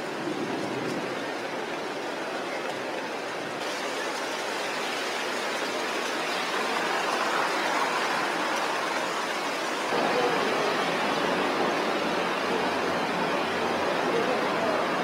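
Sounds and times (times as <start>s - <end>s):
heavy rain on street: 0.0s - 15.0s
truck driving on wet road: 0.0s - 15.0s.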